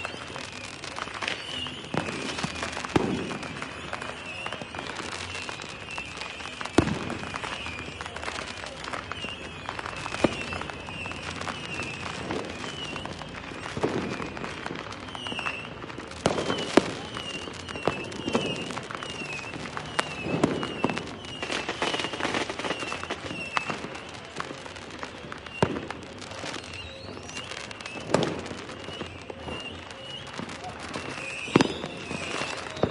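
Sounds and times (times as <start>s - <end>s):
fireworks bangs and pops: 0.0s - 32.9s
fireworks crackling: 0.0s - 32.9s
rising firework whistle: 0.0s - 32.9s.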